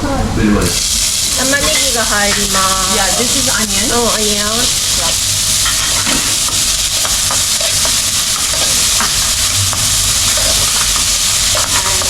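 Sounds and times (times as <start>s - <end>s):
onion and garlic sizzling in oil: 0.4s - 12.0s.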